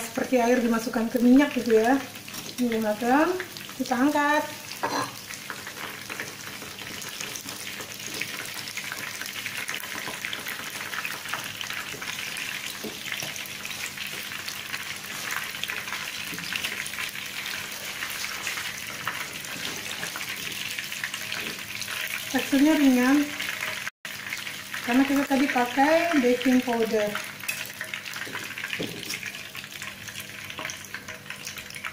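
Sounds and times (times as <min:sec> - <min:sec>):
chicken wings deep-frying in oil: 0:00.0 - 0:31.9.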